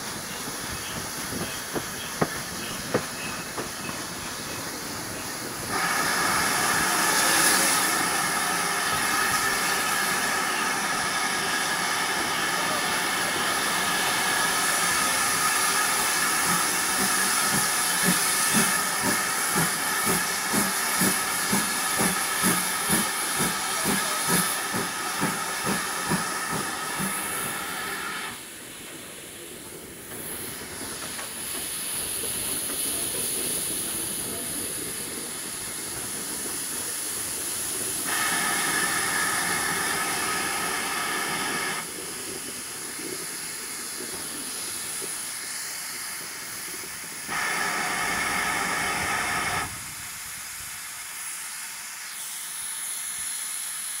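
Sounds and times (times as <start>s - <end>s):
steam exhaust beats: 0.0s - 54.0s
steam hiss: 0.0s - 54.0s
train running rumble: 0.0s - 54.0s.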